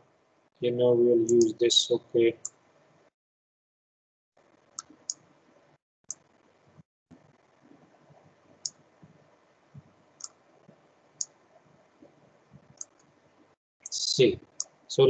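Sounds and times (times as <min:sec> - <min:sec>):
faint room noise: 0:00.0 - 0:03.1, 0:04.4 - 0:15.0.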